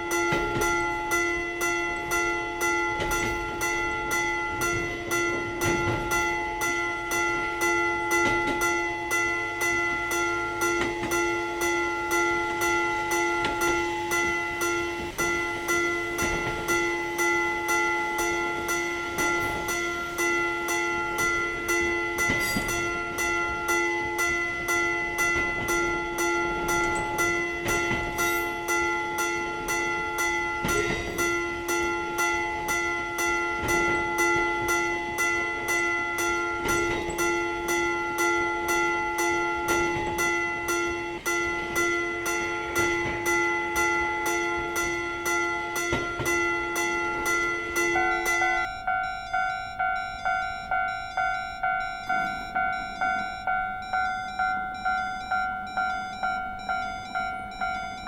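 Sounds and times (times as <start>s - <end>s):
level crossing warning bell: 0.0s - 58.0s.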